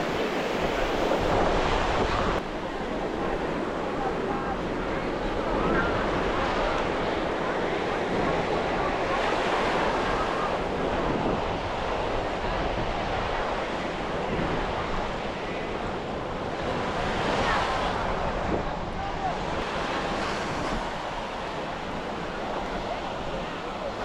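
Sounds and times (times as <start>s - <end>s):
ocean surf on beach: 0.0s - 24.0s
wind buffeting microphone: 0.0s - 24.0s.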